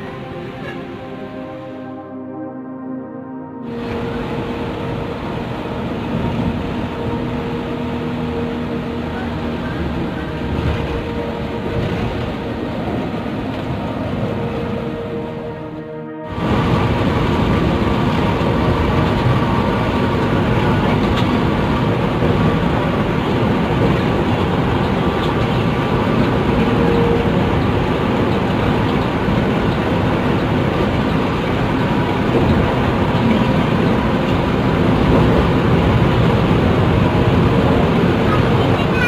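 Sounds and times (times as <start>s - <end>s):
bus engine and road noise: 0.0s - 39.0s.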